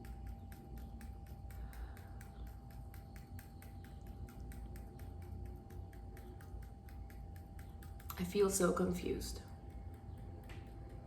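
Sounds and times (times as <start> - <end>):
fingertips tapping on body: 0.0 - 11.0
low hum: 0.0 - 11.0.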